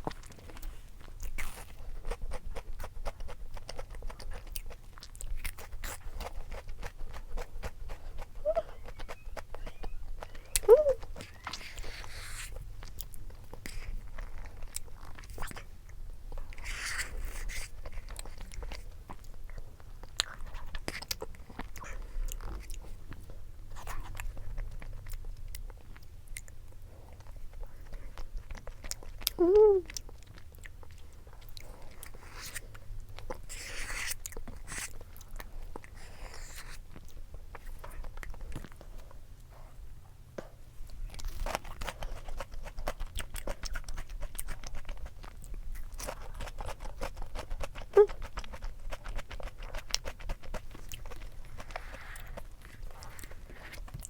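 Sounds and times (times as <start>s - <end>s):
chewing crunchy pastry: 0.0s - 54.0s.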